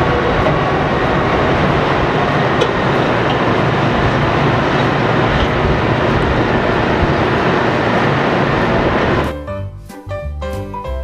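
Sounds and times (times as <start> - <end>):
diesel engines droning: 0.0 - 9.4.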